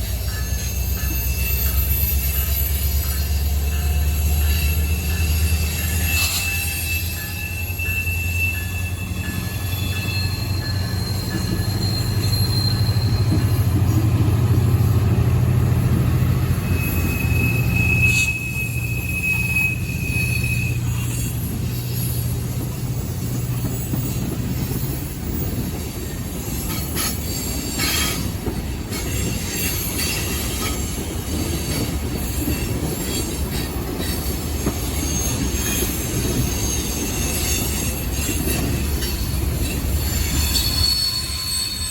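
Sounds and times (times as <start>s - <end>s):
high wheel squeals: 0.0s - 14.9s, 15.9s - 41.9s
train rolling on rails: 0.0s - 41.9s.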